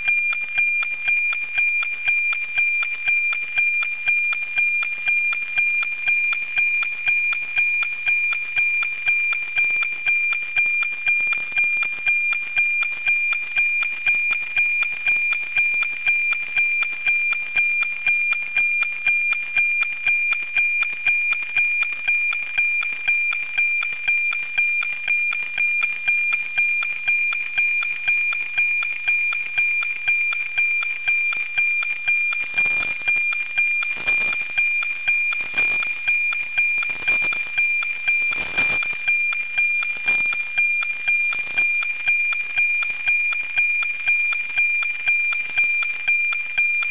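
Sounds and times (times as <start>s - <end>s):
steady tone with ticking beat: 0.0s - 46.9s.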